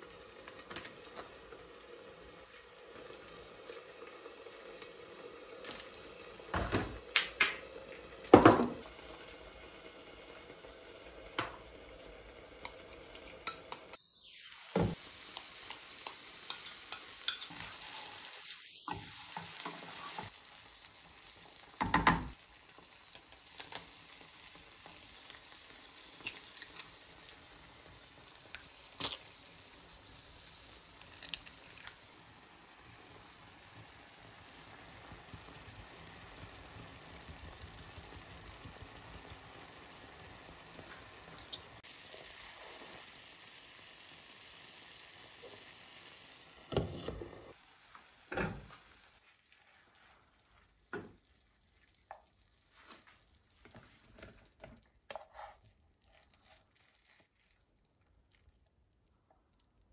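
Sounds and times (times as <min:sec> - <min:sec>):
vegetables sizzling in a pan: 0:00.0 - 0:55.6.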